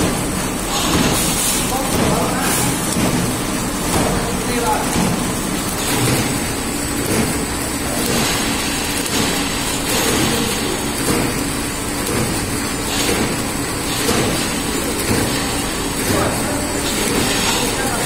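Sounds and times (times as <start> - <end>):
wrapping machine running: 0.0 - 18.0.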